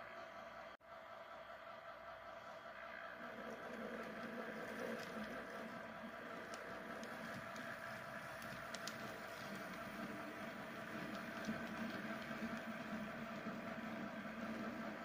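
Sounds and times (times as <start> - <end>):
model train humming: 0.0 - 15.0.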